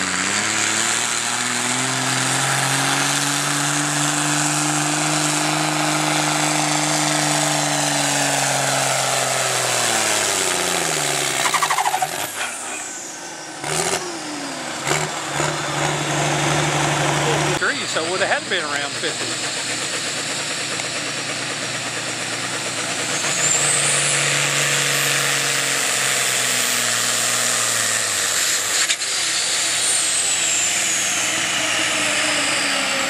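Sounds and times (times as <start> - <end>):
falling engine whine: 0.0 - 33.0
tractor diesel engine under load: 0.0 - 33.0.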